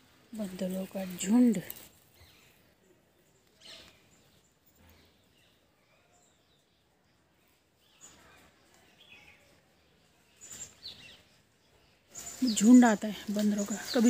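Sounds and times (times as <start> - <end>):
faint bird chirps: 0.3 - 14.0.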